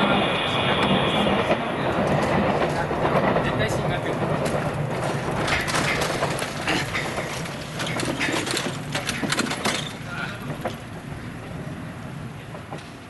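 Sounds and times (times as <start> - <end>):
train low hum: 0.0 - 13.0
train wheels clicking over rail joints: 0.0 - 13.0.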